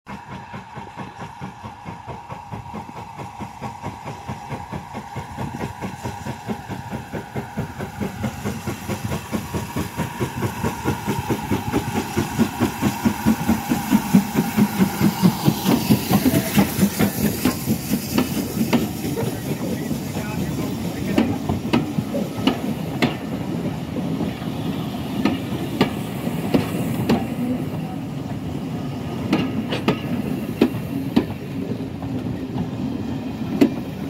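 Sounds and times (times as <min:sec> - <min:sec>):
steam locomotive exhaust chuffing: 0:00.1 - 0:34.0
train coaches rolling past: 0:00.1 - 0:34.0.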